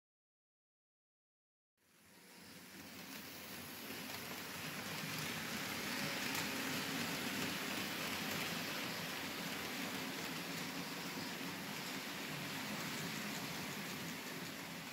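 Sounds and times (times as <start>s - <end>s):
model train rumbling on track: 1.9s - 14.9s.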